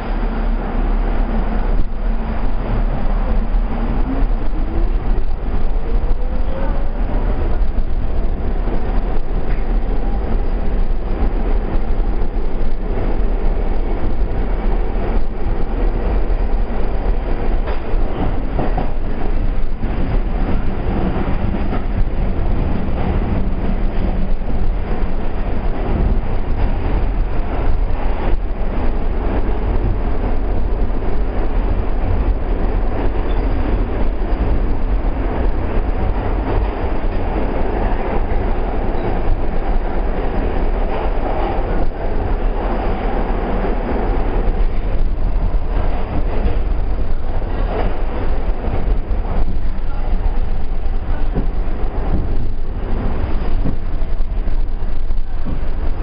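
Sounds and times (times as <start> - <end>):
subway car wheels rumbling: 0.0 - 56.0.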